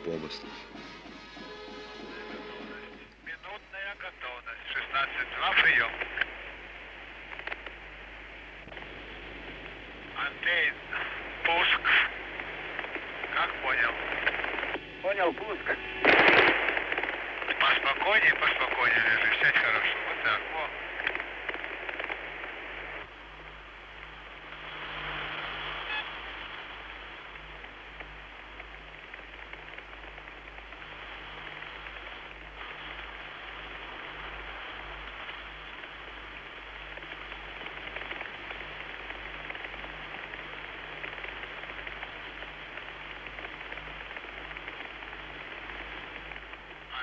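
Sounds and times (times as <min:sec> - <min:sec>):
steady rushing hiss: 0:00.0 - 0:47.0
low hum: 0:01.5 - 0:47.0.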